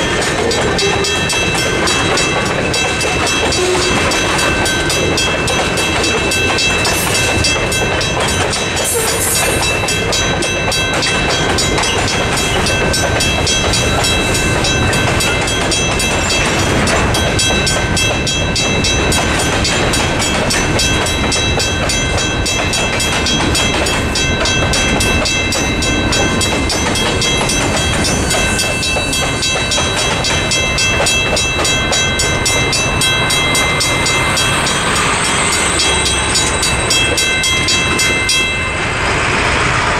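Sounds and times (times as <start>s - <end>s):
crossing bell ringing: 0.0s - 39.9s
freight train wheels clattering: 0.0s - 39.9s.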